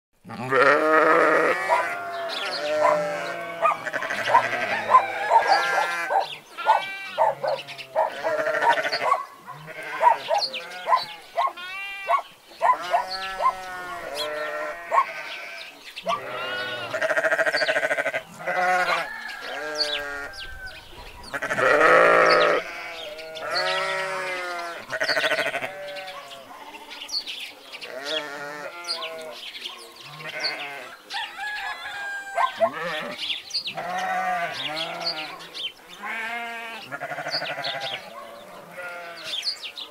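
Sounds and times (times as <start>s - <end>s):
sheep bleating: 0.2s - 20.4s, 21.3s - 27.1s, 27.8s - 29.4s, 30.1s - 31.0s, 32.0s - 39.4s.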